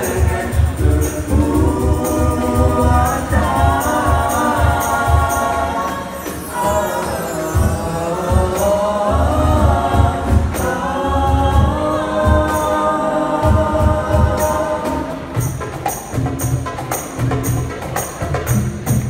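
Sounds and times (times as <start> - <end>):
male vocal group singing in harmony: 0.0 - 16.2
hand drums: 0.0 - 19.0
sharp percussion strikes: 0.0 - 19.0.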